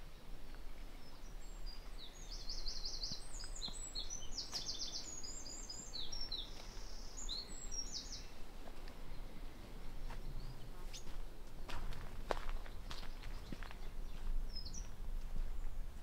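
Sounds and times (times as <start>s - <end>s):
songbird singing trills: 0.0s - 16.0s.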